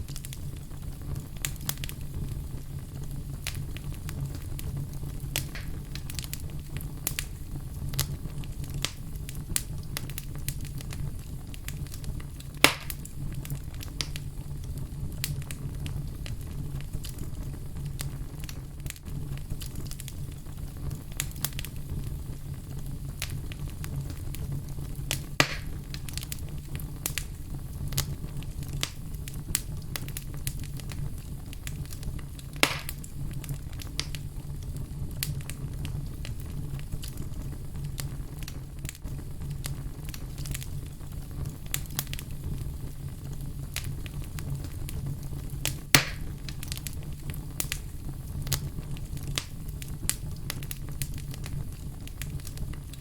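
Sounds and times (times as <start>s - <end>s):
fire crackling: 0.0s - 53.0s
loud pops from fire: 0.0s - 53.0s
low rumble of fire: 0.0s - 53.0s.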